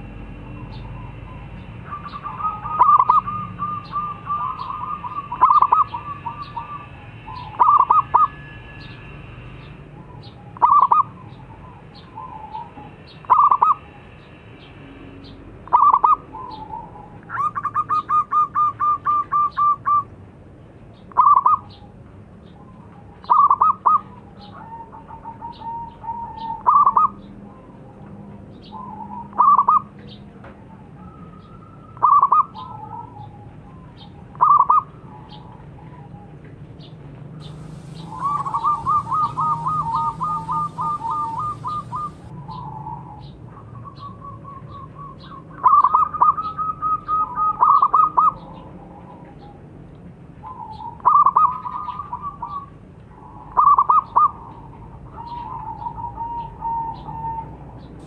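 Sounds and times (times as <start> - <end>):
dove cooing: 0.0 - 8.4, 10.0 - 14.1, 15.6 - 20.1, 22.8 - 28.0, 28.7 - 29.9, 31.0 - 36.3, 37.4 - 49.4, 50.4 - 57.6.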